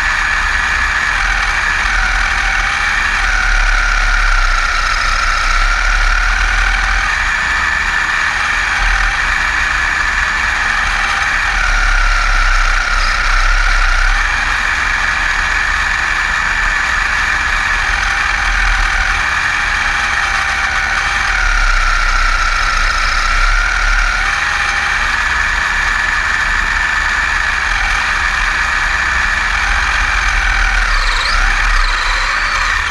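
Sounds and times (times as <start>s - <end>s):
electric motor whine: 0.0s - 32.9s.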